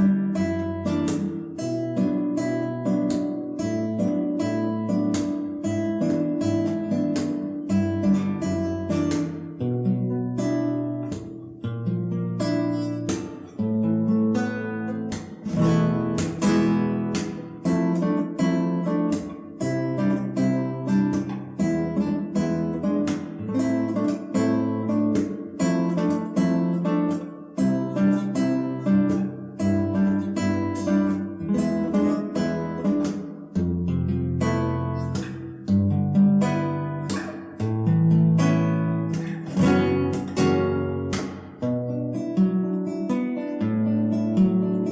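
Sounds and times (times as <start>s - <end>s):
fingerpicked acoustic guitar: 0.0s - 44.9s.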